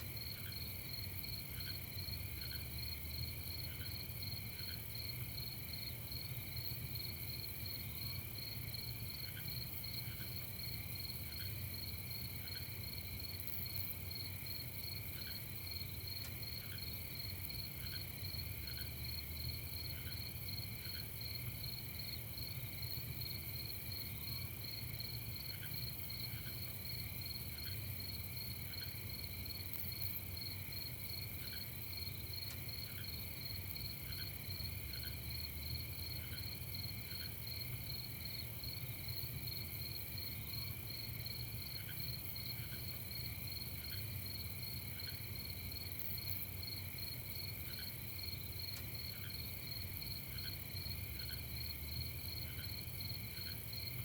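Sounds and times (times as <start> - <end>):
crickets trilling: 0.2 - 54.0.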